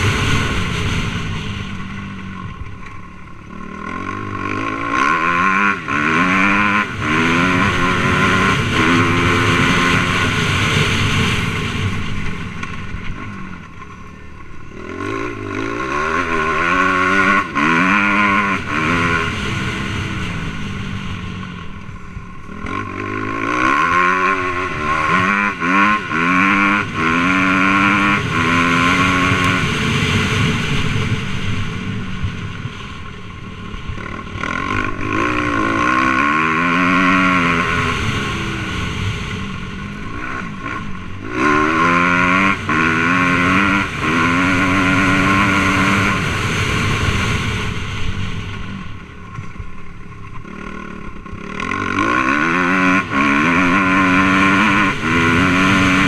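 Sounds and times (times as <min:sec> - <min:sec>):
motocross bike engine accelerating: 0:00.0 - 0:56.0.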